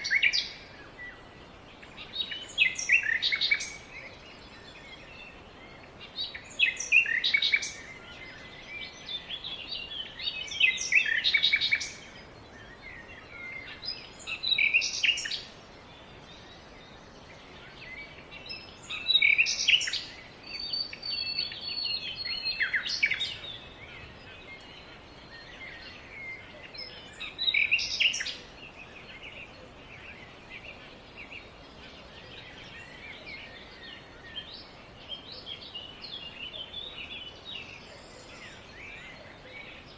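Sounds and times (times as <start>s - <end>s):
bird chirping: 0.0s - 39.9s
faint background hiss: 0.0s - 39.9s.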